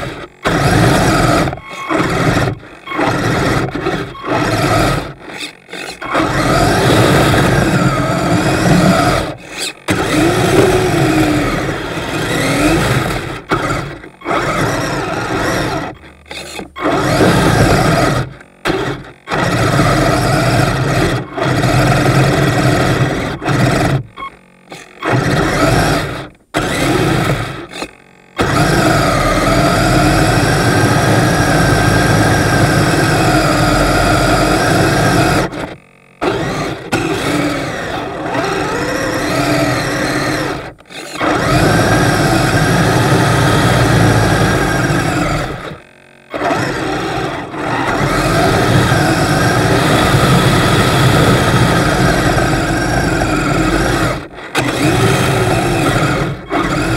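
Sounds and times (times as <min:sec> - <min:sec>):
electric motor whine: 0:00.0 - 0:56.9.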